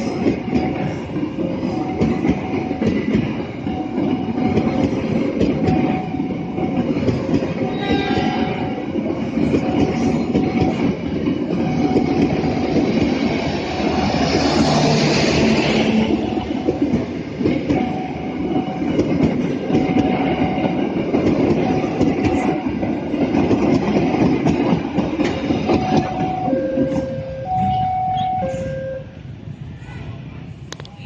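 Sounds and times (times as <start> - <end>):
train wheels clacking on rails: 0.0 - 28.8.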